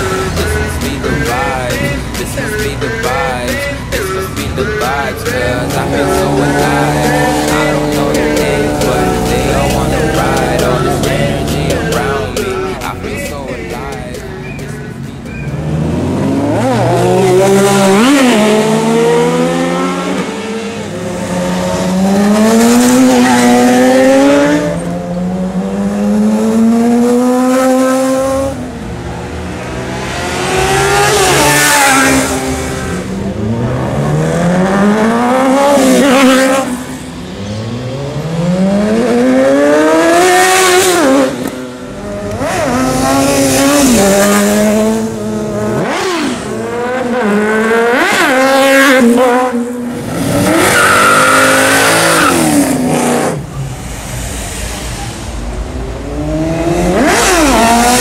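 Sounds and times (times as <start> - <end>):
motorcycle engines accelerating: 0.0 - 58.0.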